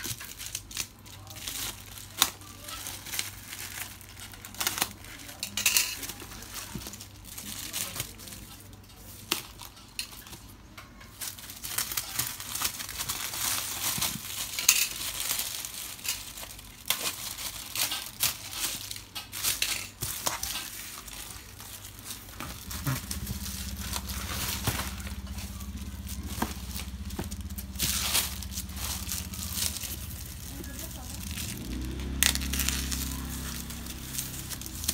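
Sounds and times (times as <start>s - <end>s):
plastic bag crinkling: 0.0s - 34.9s.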